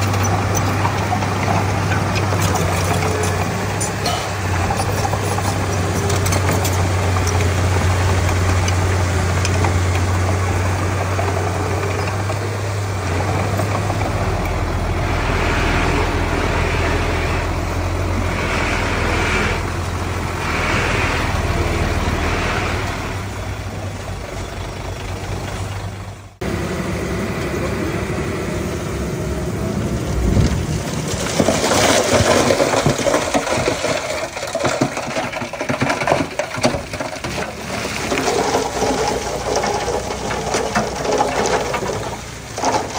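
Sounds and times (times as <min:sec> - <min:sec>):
heavy machinery diesel engines: 0:00.0 - 0:42.9.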